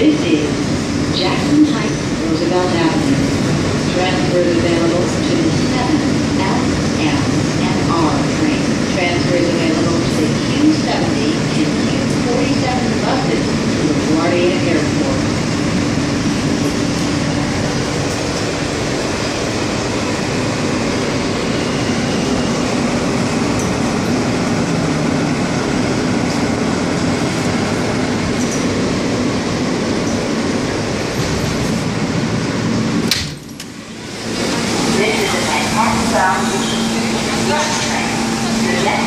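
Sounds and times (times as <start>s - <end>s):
subway train rumble and hum: 0.0s - 39.0s.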